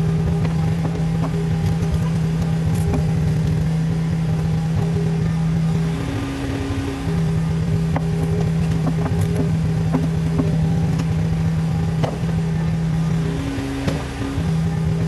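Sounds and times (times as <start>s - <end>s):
diesel engine running: 0.0s - 15.0s
hydraulic hum: 0.0s - 15.0s.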